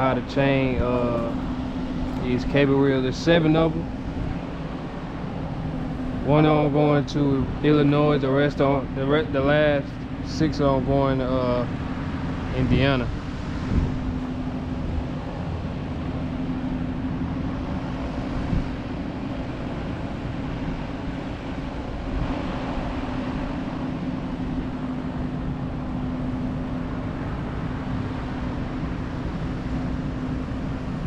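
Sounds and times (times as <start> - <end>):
rumbling noisy background: 0.0 - 31.0.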